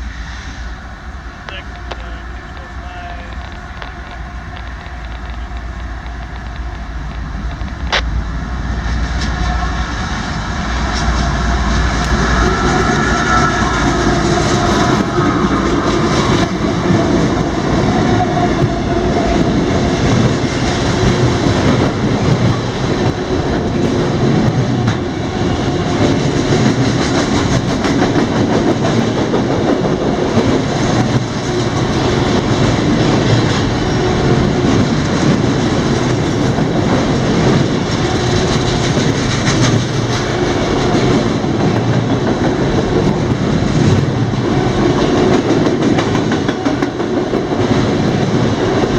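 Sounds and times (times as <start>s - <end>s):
train wheels rumbling on rail: 0.0s - 48.9s
wheels clicking over rail joints: 0.0s - 48.9s.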